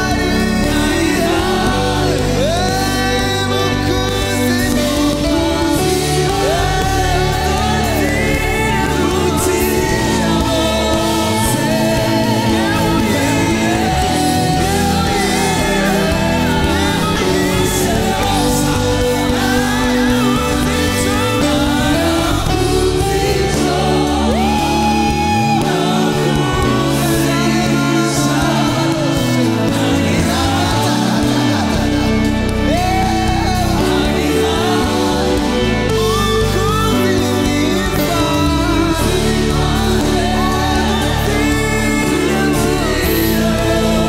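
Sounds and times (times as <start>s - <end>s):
bass guitar: 0.0s - 44.0s
drums: 0.0s - 44.0s
electric guitar: 0.0s - 44.0s
keyboard: 0.0s - 44.0s
person singing melody: 0.0s - 44.0s.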